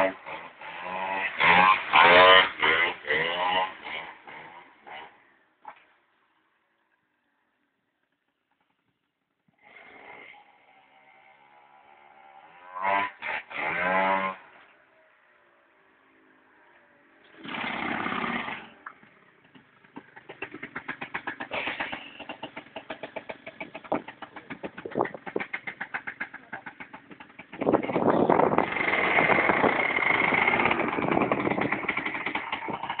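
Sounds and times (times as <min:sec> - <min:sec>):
scooter engine idling and revving: 0:00.0 - 0:05.8, 0:08.0 - 0:15.1, 0:16.1 - 0:33.0.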